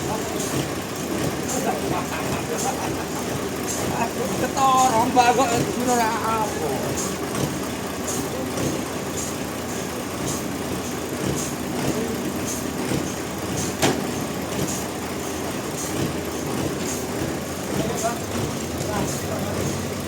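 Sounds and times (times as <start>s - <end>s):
engine-driven machinery running: 0.0s - 20.0s.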